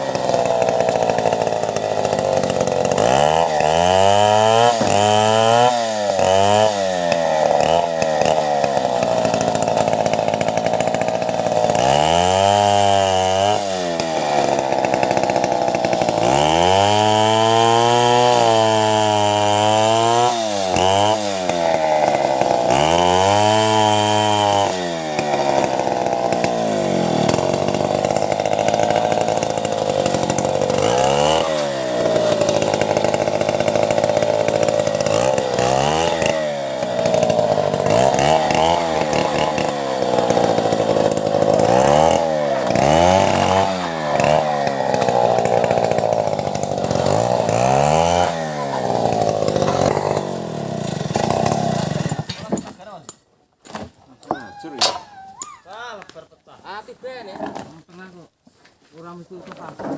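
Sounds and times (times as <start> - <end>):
chainsaw ripping timber: 0.0 - 58.2, 59.4 - 59.9.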